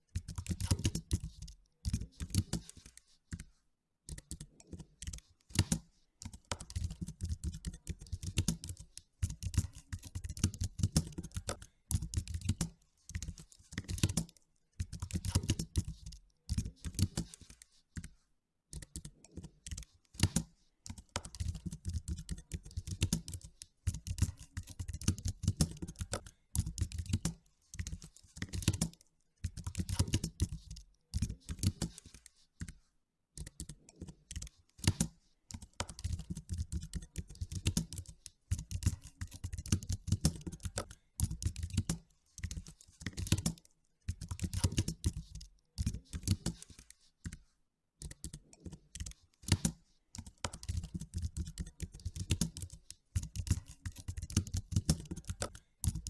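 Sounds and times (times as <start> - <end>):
typing on computer keyboard: 0.0 - 56.0.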